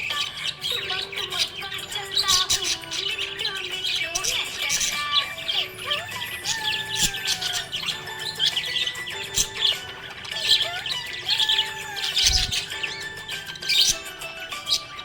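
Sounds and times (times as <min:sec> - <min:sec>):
background music with held notes: 0:00.0 - 0:15.0
budgerigars chirping: 0:00.0 - 0:15.0.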